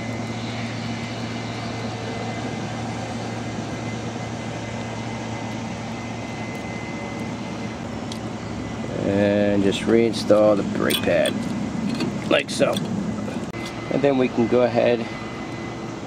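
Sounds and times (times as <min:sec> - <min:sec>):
machine hum with high whine: 0:00.0 - 0:16.0.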